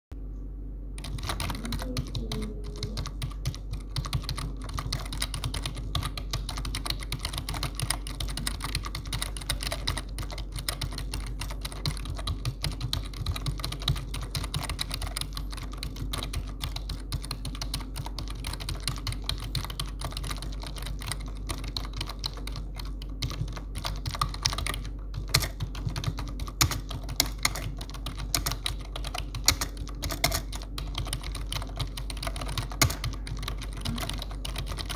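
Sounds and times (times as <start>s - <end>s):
low hum: 0.1s - 34.9s
fast typing on keyboard: 1.0s - 34.9s.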